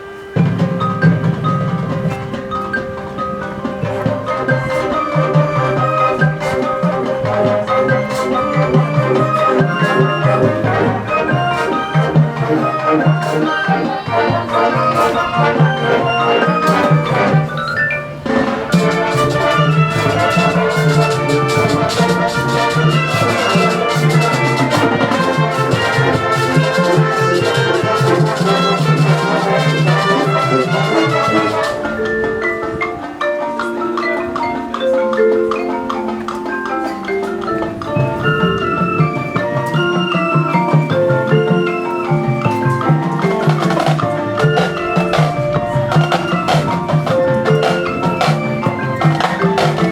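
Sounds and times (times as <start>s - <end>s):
marching band playing: 0.0s - 49.9s.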